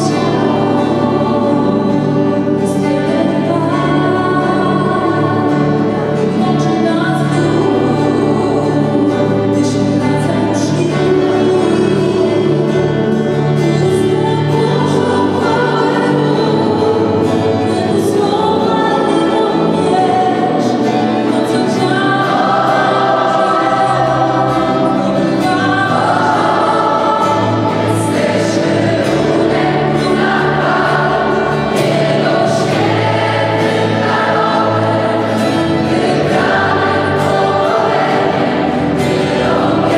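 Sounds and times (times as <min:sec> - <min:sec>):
choir singing gospel: 0:00.0 - 0:39.9.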